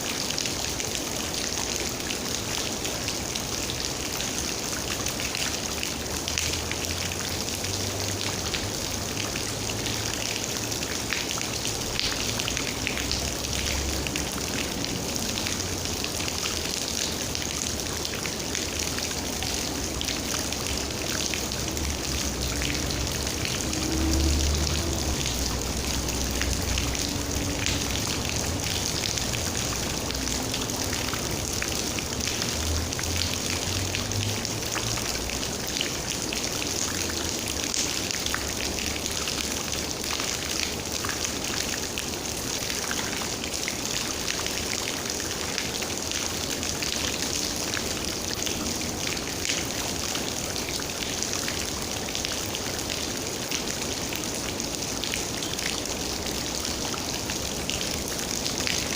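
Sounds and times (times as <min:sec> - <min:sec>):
rain pattering: 0:00.0 - 0:58.9.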